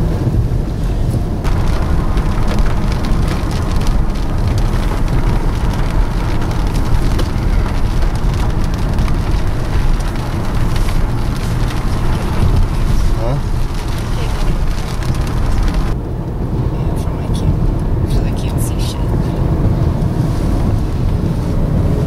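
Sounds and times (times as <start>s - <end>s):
wind and road noise: 0.0s - 22.0s
rain ticking on car windshield: 1.1s - 22.0s.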